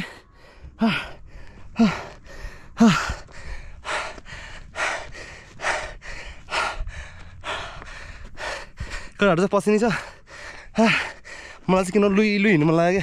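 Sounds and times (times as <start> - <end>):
voiced huffs: 0.0 - 12.3
person panting hard: 0.0 - 13.0.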